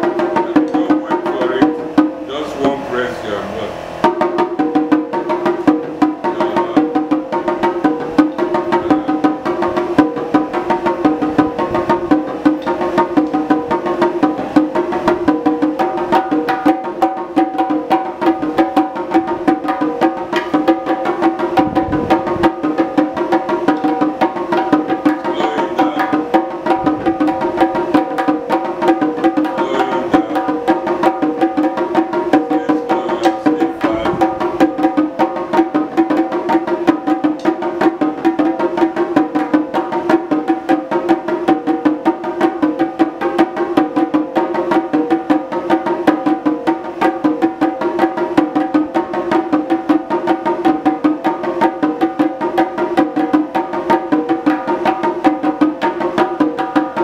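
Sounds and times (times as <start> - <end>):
fast drum rhythm: 0.0 - 57.0.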